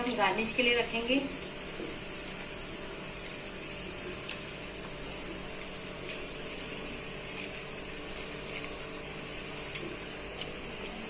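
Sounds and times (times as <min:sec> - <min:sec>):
milk pot hissing on stove: 0:00.0 - 0:11.0.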